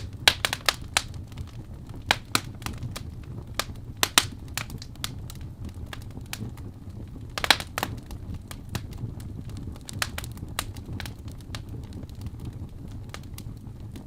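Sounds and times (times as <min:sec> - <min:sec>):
fireplace crackling and popping: 0:00.0 - 0:14.0
low rumble of fire: 0:00.0 - 0:14.0.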